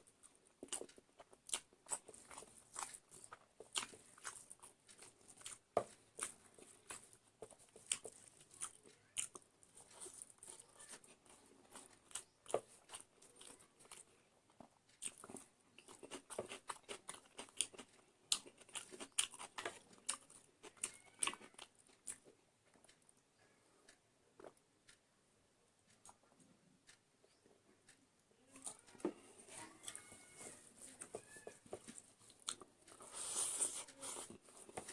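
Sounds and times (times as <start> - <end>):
person chewing food: 0.0 - 25.1, 28.6 - 34.9.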